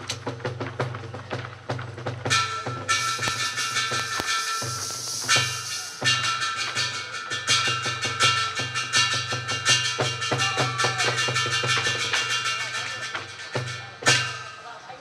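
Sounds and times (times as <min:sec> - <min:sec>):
percussion-driven theatre music: 0:00.0 - 0:15.0.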